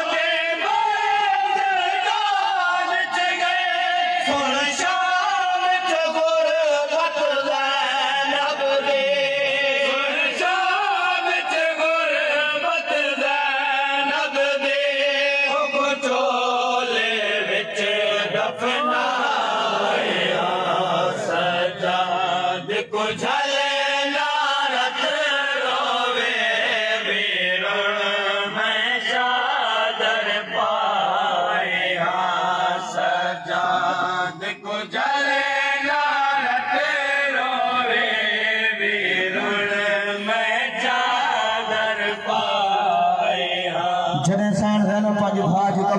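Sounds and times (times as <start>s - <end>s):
men chanting a lament: 0.0s - 45.9s.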